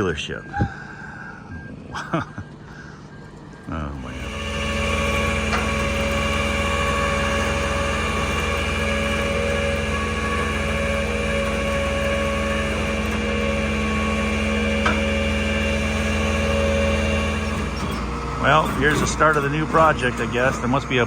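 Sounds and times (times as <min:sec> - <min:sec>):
truck engine droning with whine: 0:00.0 - 0:21.0.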